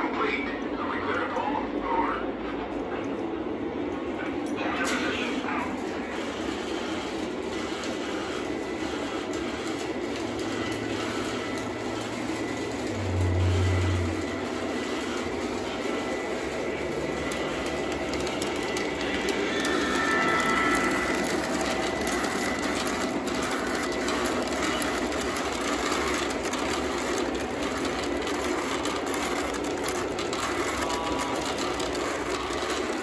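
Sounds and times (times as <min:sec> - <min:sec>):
model trains whirring and rattling: 0:00.0 - 0:33.0.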